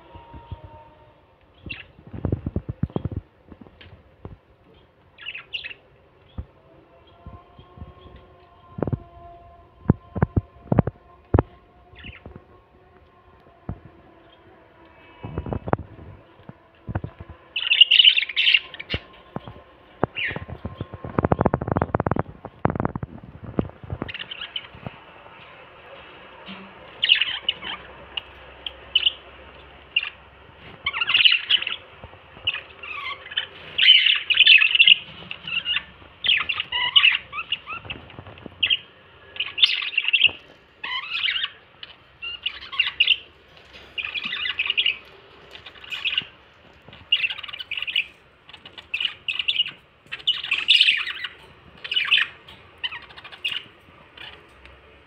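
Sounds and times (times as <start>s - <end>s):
birds chirping and squawking: 0.0s - 55.0s.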